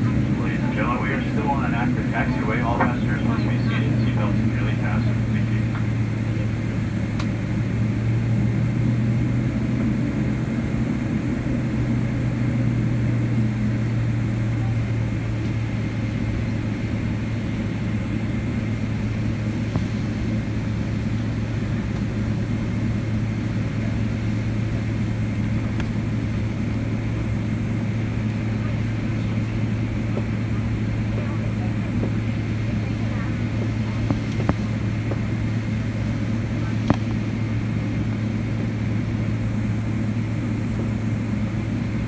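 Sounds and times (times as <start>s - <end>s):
jet engines idling low hum: 0.0s - 42.0s.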